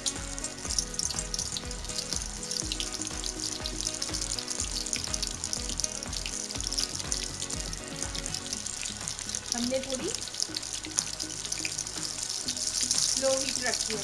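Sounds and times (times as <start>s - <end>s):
background music with beat: 0.0s - 14.0s
oil sizzling and crackling: 0.0s - 14.0s.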